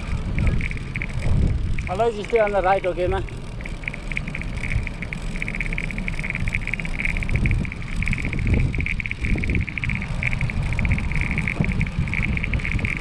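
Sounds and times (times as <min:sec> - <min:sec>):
pulsing high-pitched whir: 0:00.0 - 0:13.0
tyres rolling on gravel: 0:00.0 - 0:13.0
wind buffeting microphone: 0:00.0 - 0:13.0.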